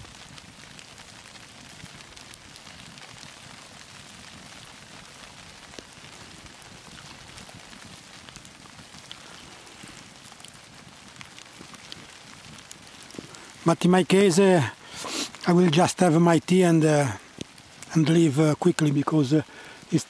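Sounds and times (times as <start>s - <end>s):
campfire hissing and crackling: 0.0s - 20.0s.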